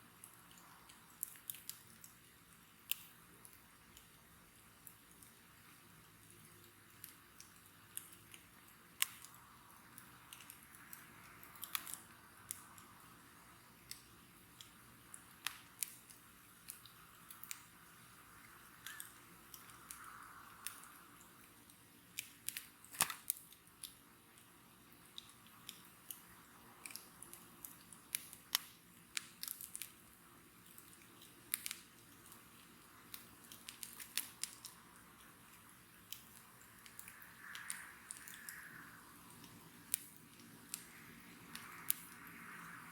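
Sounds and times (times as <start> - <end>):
bonfire crackling and popping: 0.0 - 42.9
faint fire hiss: 0.0 - 42.9.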